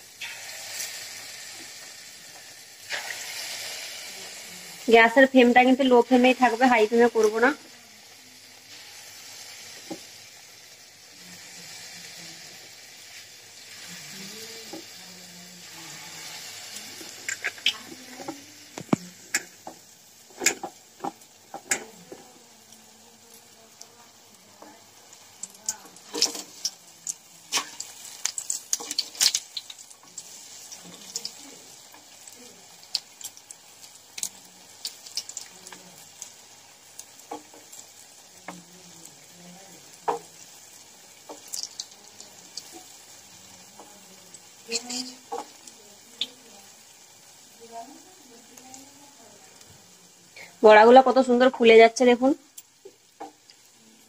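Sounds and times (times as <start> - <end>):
oil popping and crackling: 0.0 - 7.8, 12.9 - 50.5, 52.4 - 53.9
fritters sizzling in hot oil: 0.0 - 54.0.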